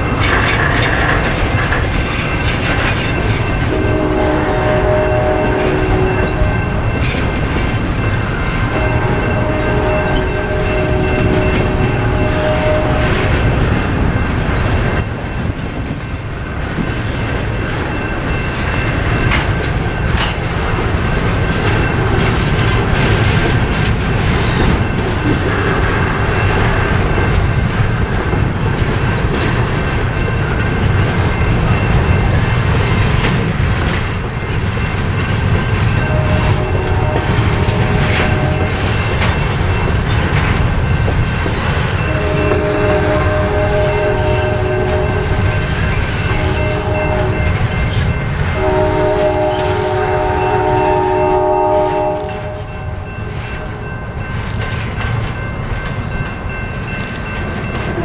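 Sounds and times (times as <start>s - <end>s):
freight train rumbling past: 0.0s - 58.0s
railroad crossing bells: 0.0s - 58.0s
wheels clacking over rail joints: 0.0s - 58.0s.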